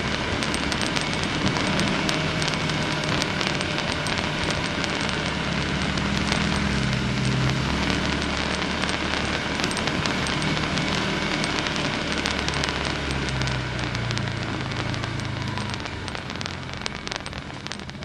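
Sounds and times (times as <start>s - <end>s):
crackle of clicks and pops: 0.0s - 18.0s.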